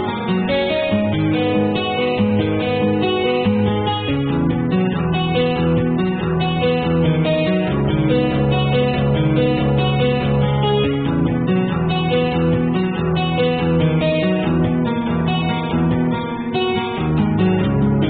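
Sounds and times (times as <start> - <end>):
acoustic guitar chords: 0.0 - 18.0.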